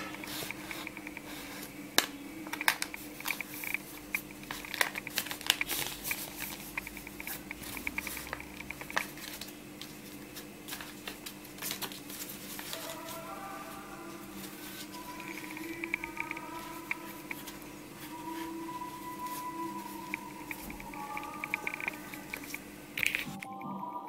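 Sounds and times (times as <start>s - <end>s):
paper crinkling: 0.0s - 23.4s
faint steady hum: 0.0s - 24.0s.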